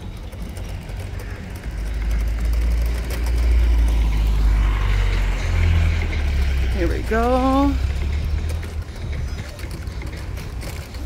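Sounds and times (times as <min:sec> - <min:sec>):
van engine running: 0:00.0 - 0:11.0.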